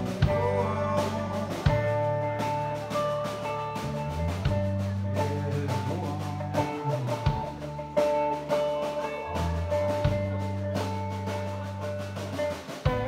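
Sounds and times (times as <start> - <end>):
electric bass long low notes: 0.0 - 13.0
electric guitar line: 0.0 - 13.0.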